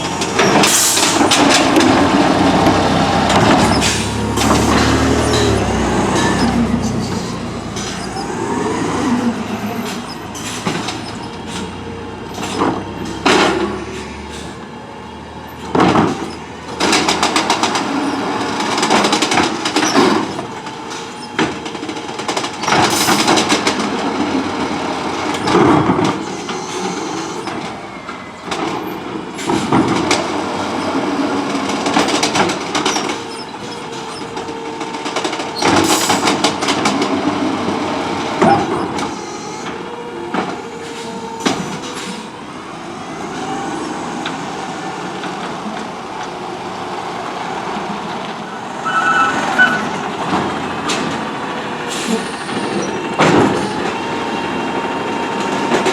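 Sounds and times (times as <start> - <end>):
garbage truck engine running: 0.0 - 55.9.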